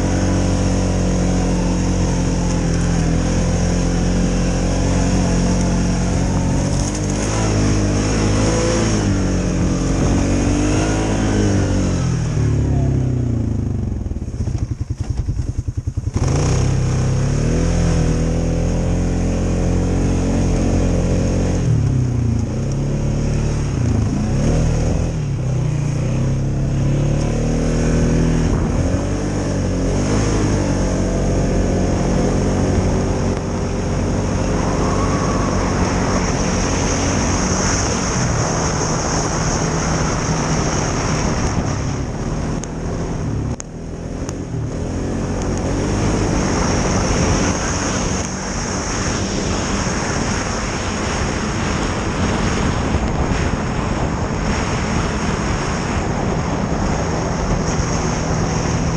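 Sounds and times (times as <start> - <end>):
atv engine running: 0.0 - 58.9.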